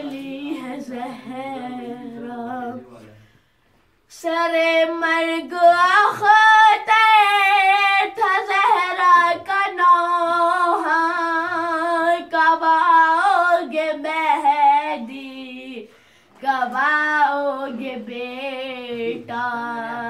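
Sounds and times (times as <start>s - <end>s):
boy singing unaccompanied: 0.0s - 3.1s, 4.1s - 20.0s.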